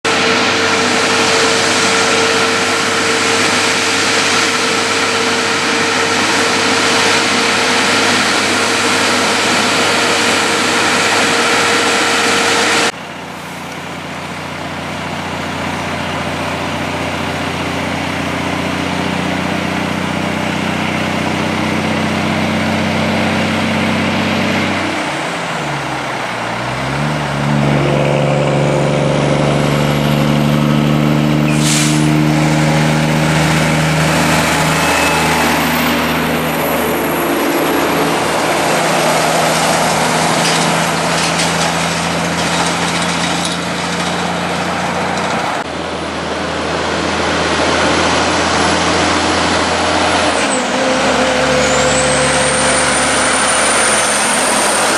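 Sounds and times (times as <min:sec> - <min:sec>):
heavy truck passing: 0:00.0 - 0:54.9
truck engine revving: 0:00.0 - 0:54.9
trucks idling: 0:00.0 - 0:54.9.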